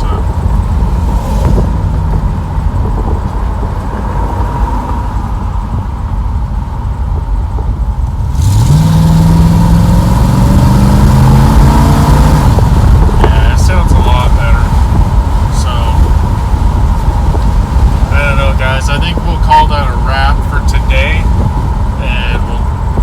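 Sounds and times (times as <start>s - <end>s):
car engine accelerating: 0.0s - 23.0s
road noise: 0.0s - 23.0s.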